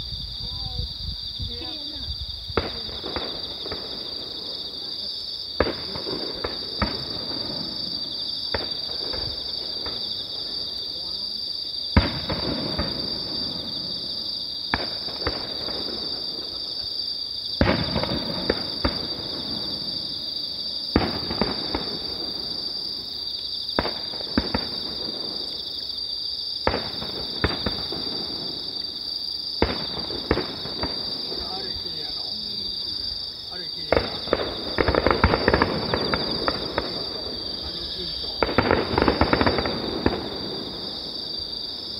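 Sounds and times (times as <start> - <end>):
insects chirring: 0.0 - 41.9
distant fireworks booming: 1.3 - 41.9
fireworks crackle: 1.5 - 11.1, 11.9 - 25.9, 26.6 - 41.9.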